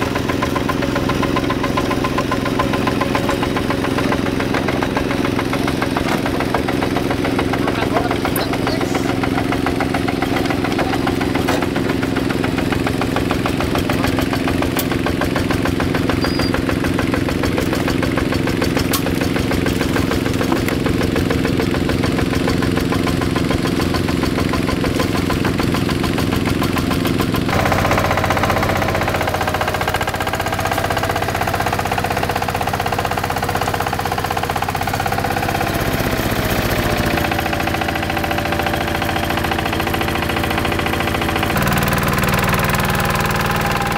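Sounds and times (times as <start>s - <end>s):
diesel engine chugging: 0.0s - 43.9s.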